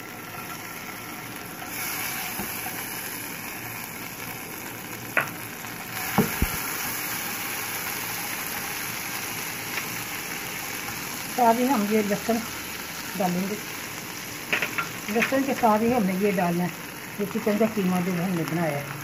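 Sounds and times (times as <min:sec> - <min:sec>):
butter sizzling in frying pan: 0:00.0 - 0:19.0.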